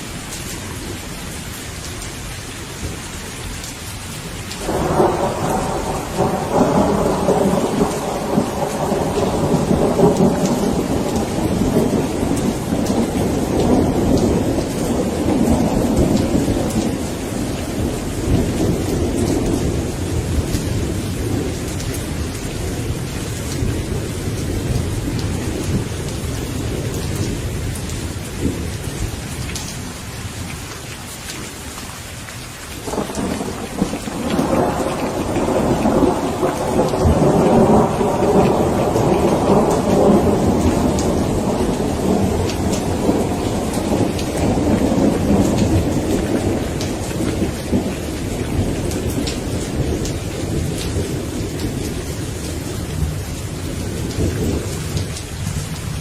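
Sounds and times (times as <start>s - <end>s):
steady rain: 0.0s - 56.0s
rolling thunder: 4.6s - 29.6s, 32.8s - 56.0s.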